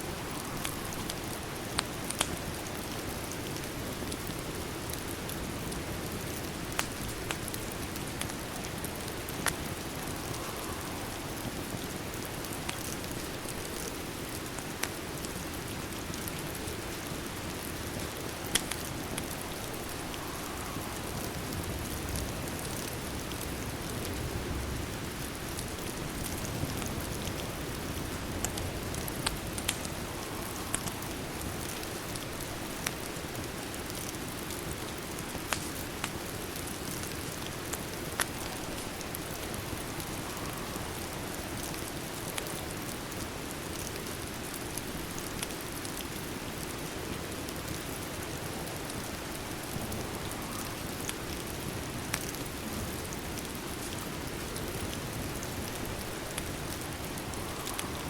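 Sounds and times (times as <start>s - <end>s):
fireplace crackling: 0.0s - 58.0s
steady rain: 0.0s - 58.0s.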